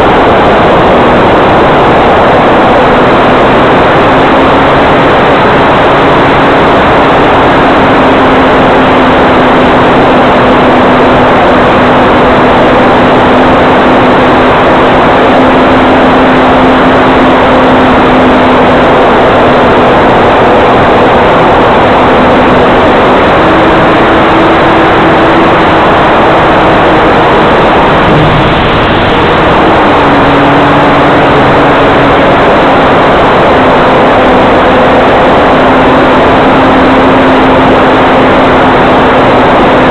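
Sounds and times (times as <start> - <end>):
model plane motor drone: 0.0 - 39.9
rush of noise: 0.0 - 39.9.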